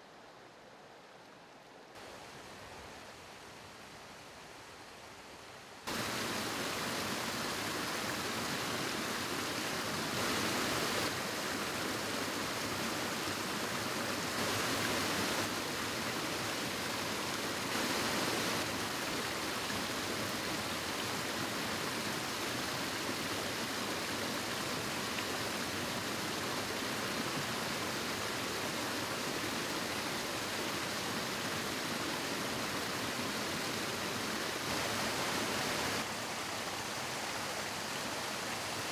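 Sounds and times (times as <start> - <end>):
rushing running water: 0.0 - 38.9.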